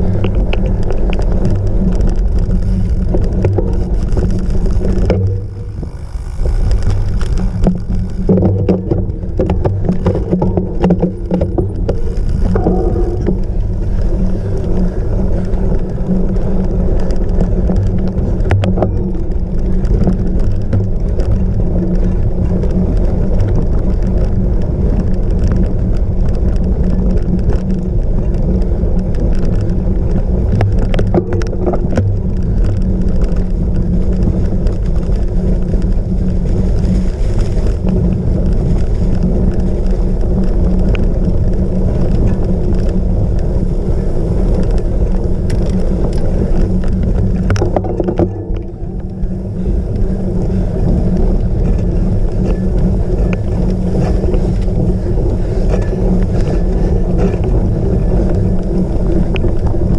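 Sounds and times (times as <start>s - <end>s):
bike frame rattling: 0.0s - 59.9s
bike tyres on rough ground: 0.0s - 59.9s.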